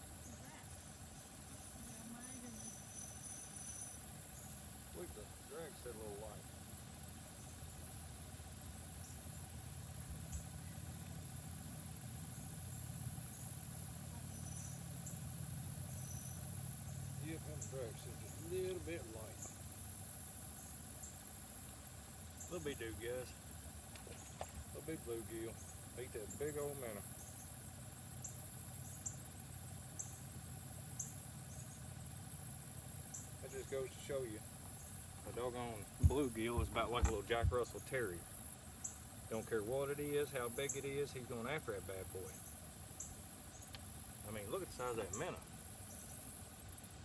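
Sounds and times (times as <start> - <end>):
boat motor humming: 0.0 - 47.0
faint high hiss: 0.0 - 47.0
high drone of insects: 0.0 - 47.0.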